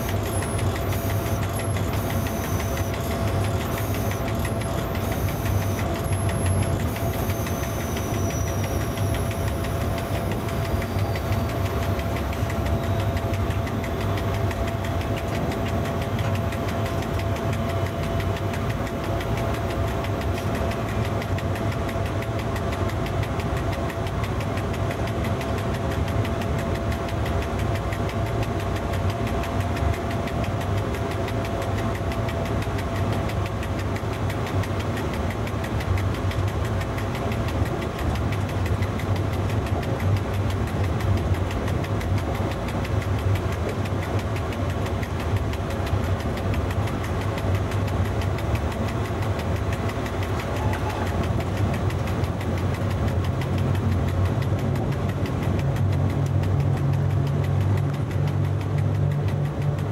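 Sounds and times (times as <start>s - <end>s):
thin steady whine: 0.0s - 59.8s
locomotive cab hum and rumble: 0.0s - 59.9s.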